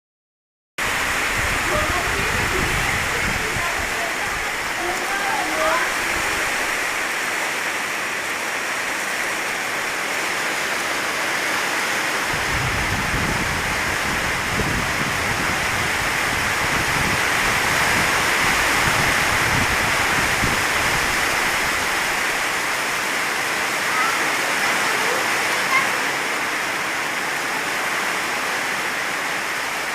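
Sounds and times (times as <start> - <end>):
heavy rain falling: 0.8 - 29.9.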